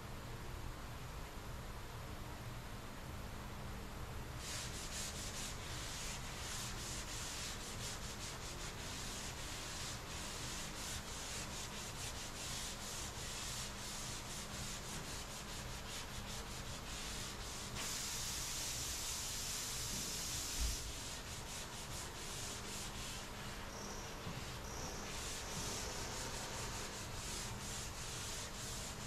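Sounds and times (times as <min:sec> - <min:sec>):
sandpaper rasping back and forth: 0:04.4 - 0:29.0.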